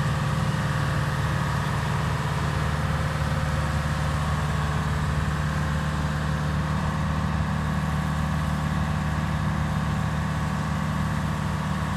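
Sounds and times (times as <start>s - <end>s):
excavator engine idling: 0.0s - 11.9s.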